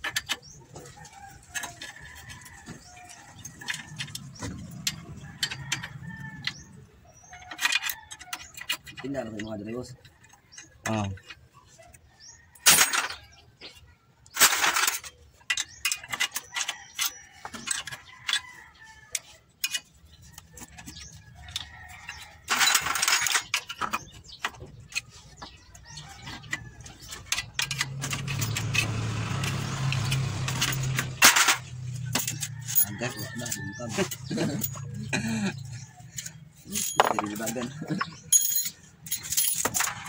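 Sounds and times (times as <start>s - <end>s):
metal clicks and rattling: 0.0s - 11.5s, 14.2s - 18.6s, 19.2s - 40.0s.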